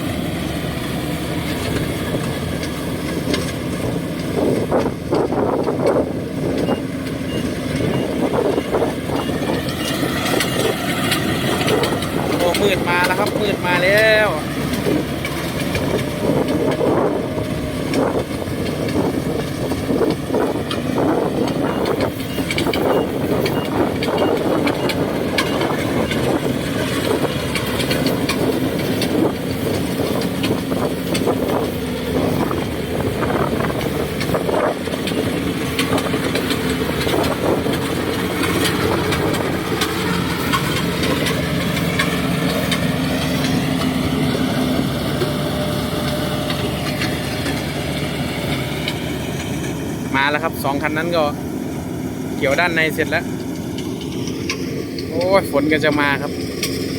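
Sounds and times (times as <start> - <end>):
diesel engine running: 0.0 - 56.9
machinery rattling and clicking: 0.0 - 56.9.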